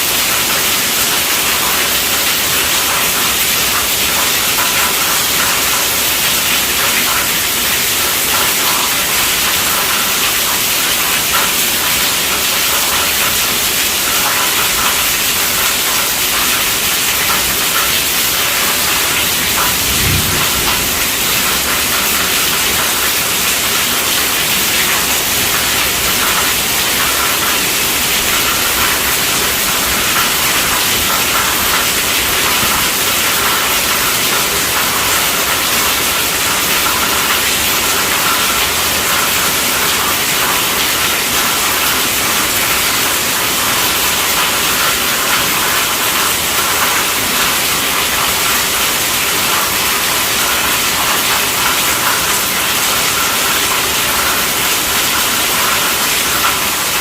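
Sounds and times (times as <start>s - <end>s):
heavy rain on a tent roof: 0.0s - 57.0s.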